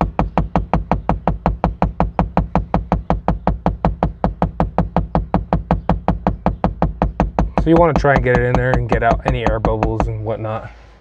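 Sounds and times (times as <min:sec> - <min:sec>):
rapid tapping on windshield: 0:00.0 - 0:10.4.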